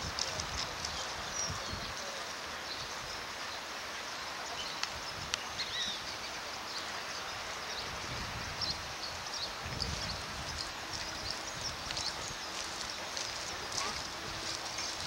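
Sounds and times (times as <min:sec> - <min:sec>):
steady hiss: 0:00.0 - 0:15.0
small birds chirping: 0:00.1 - 0:15.0.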